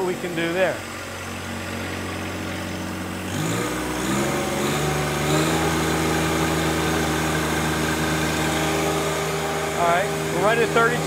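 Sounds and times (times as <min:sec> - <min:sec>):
diesel tractor engine revving: 0:00.0 - 0:11.0.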